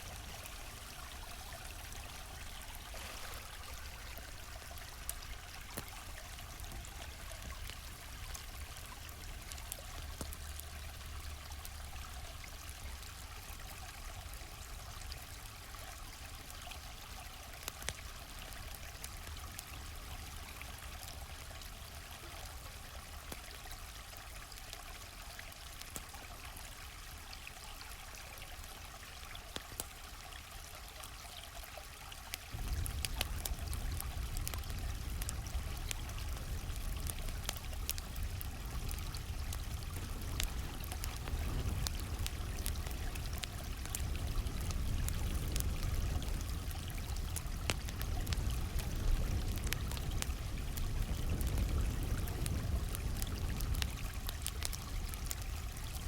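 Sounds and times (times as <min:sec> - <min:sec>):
campfire crackling and popping: 0:00.0 - 0:31.4, 0:32.3 - 0:56.0
stream flowing: 0:00.0 - 0:56.0.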